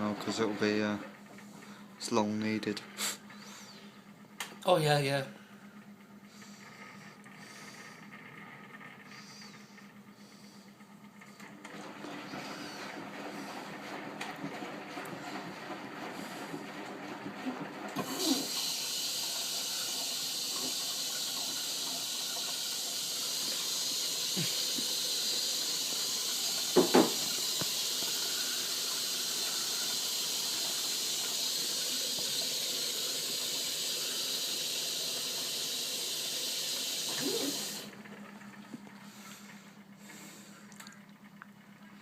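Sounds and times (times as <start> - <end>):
water rushing into washing machine: 0.0 - 3.8, 6.4 - 41.3.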